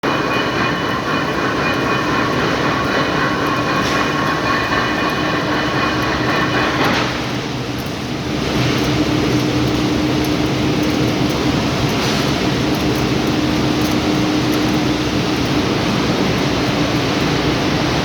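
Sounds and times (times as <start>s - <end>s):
small lathe running: 0.0s - 18.0s.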